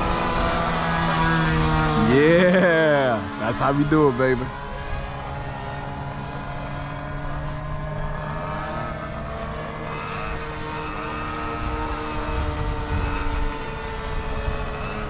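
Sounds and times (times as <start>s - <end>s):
model airplane engines whining: 0.0s - 15.0s.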